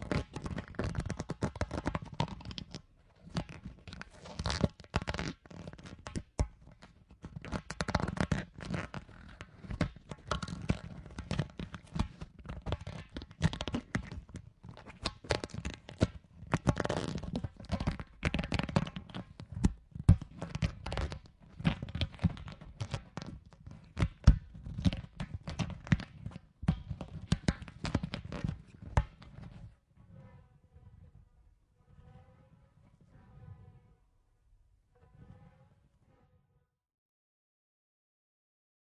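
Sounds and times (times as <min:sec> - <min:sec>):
rubber ball crackling and rubbing: 0:00.0 - 0:34.0.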